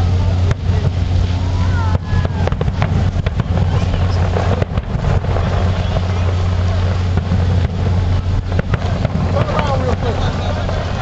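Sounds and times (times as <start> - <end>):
fireworks bangs and crackles: 0.0 - 11.0
steady low rumble: 0.0 - 11.0.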